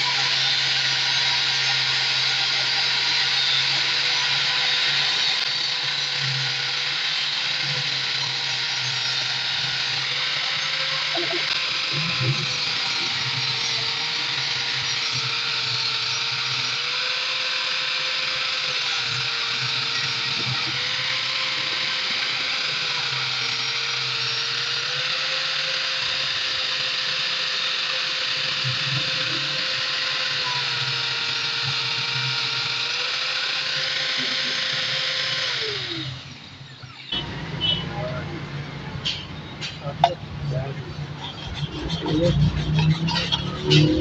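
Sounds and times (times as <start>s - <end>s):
electric grinder whining: 0.0s - 44.0s.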